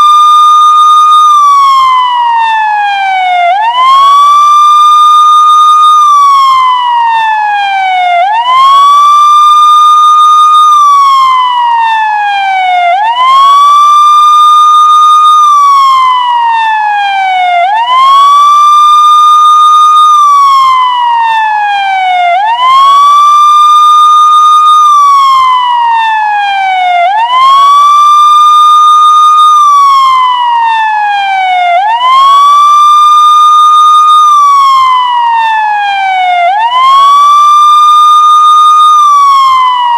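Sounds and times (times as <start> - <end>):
wailing siren tone: 0.0 - 39.9.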